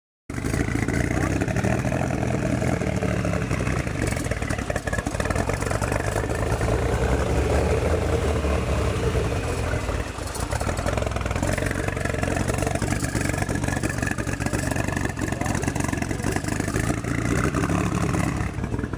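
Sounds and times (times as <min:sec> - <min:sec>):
car engine idling roughly: 0:00.3 - 0:08.3, 0:09.0 - 0:18.9.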